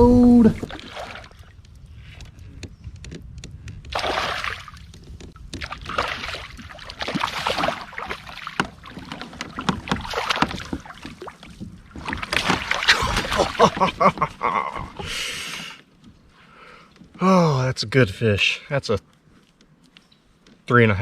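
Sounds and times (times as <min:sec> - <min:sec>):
water splashing and sloshing: 0:00.0 - 0:17.2.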